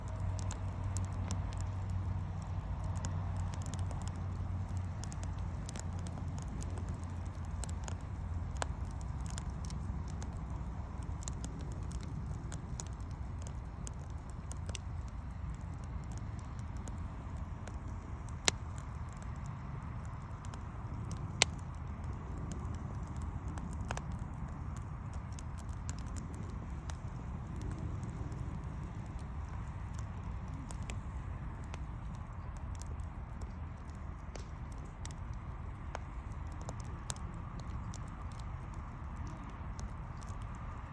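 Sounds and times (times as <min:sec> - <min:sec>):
fire pops: 0:00.0 - 0:40.9
wood fire crackling: 0:00.0 - 0:40.9.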